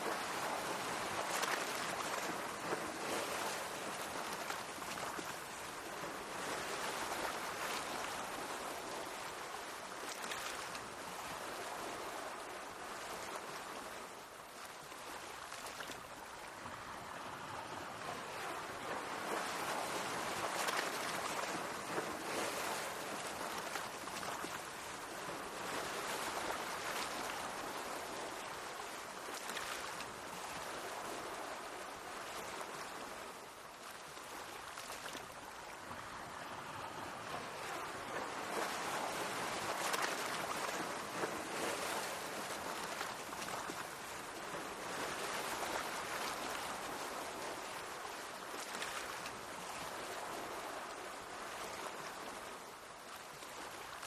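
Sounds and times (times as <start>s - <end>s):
sea waves splashing on shore: 0.0s - 54.0s.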